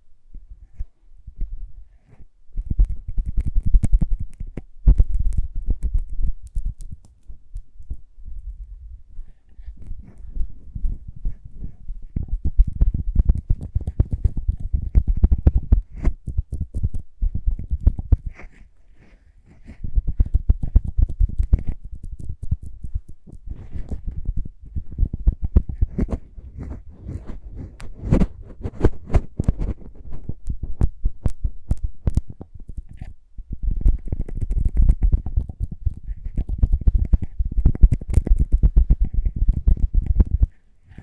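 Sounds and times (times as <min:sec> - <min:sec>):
rubbing against microphone: 0:00.6 - 0:41.0
crackling taps on microphone: 0:02.6 - 0:08.0, 0:09.8 - 0:18.6, 0:19.6 - 0:41.0.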